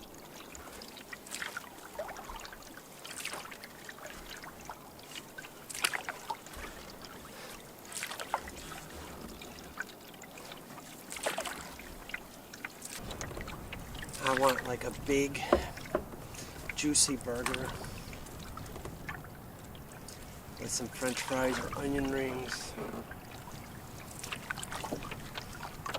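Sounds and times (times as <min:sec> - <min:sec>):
paddle splashing in water: 0:00.0 - 0:25.9.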